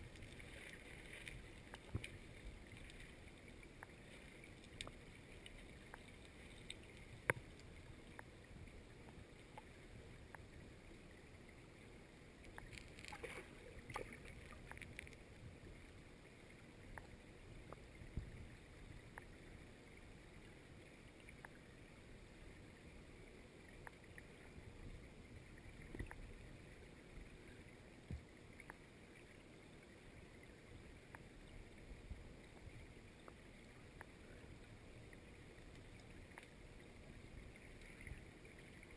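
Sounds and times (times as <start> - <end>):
muffled underwater river noise: 0.0 - 38.9.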